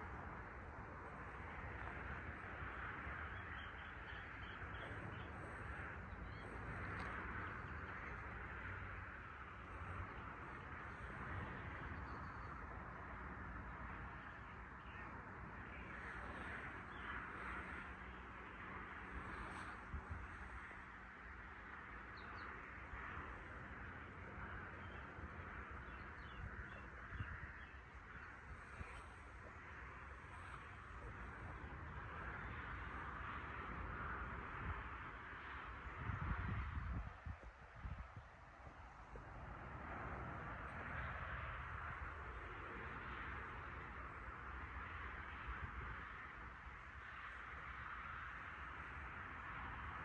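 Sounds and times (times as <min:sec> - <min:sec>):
rushing background noise: 0:00.0 - 0:50.0.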